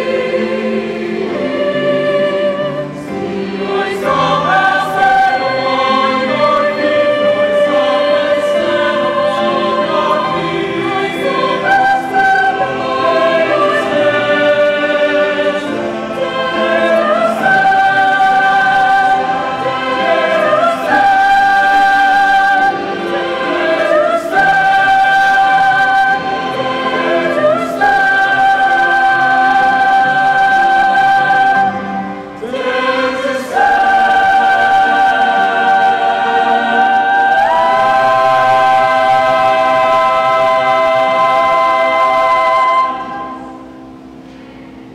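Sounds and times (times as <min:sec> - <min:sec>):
mixed choir singing a hymn: 0:00.0 - 0:44.9.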